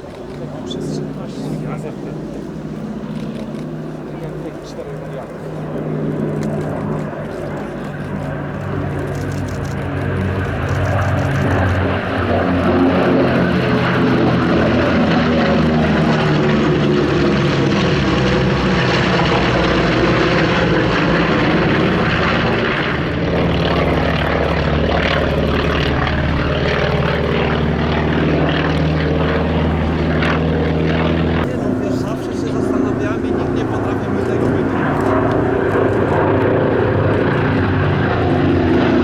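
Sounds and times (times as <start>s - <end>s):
propeller plane engines throbbing: 0.0s - 39.0s.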